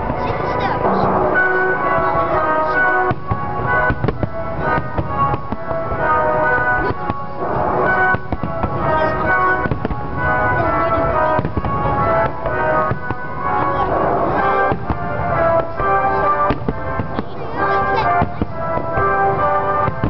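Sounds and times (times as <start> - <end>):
fireworks bangs and crackling: 0.0 - 20.0
music with held notes: 0.0 - 20.0.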